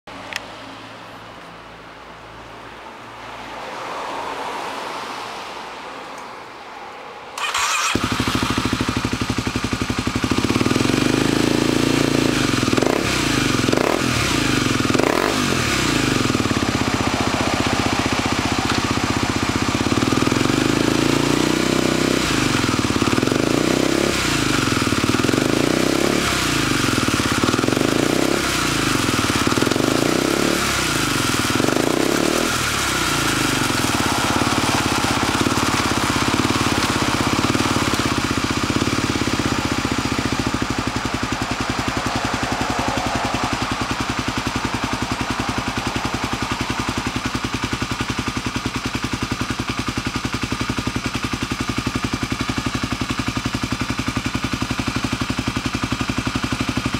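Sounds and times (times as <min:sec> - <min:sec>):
motorcycle engine idling and revving: 0:00.0 - 0:56.9.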